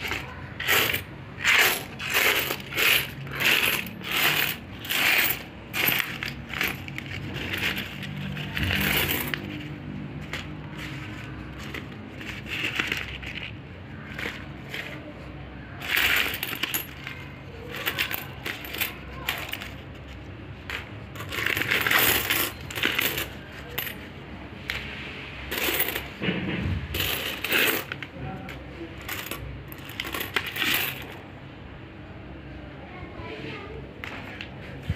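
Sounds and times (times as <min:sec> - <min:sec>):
small hard objects clinking: 0:00.0 - 0:24.1, 0:27.0 - 0:31.2.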